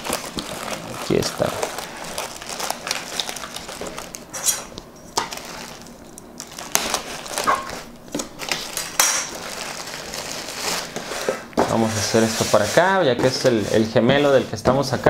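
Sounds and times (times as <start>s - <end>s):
plastic bag crinkling: 0.0s - 14.9s
cardboard packaging scraping: 0.0s - 15.0s.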